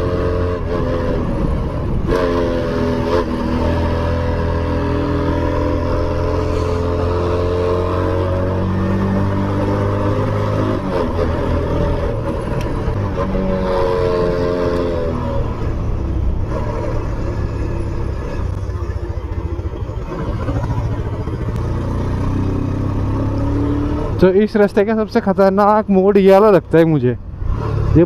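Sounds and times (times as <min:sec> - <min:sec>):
motorcycle engine running: 0:00.0 - 0:25.2.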